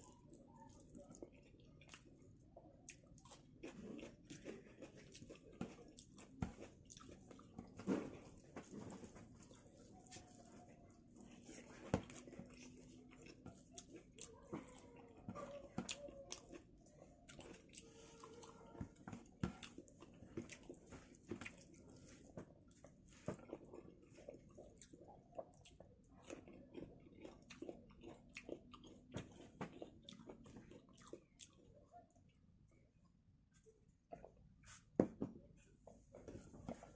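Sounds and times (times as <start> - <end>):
chewing with mouth clicks and smacks: 0.0 - 34.5.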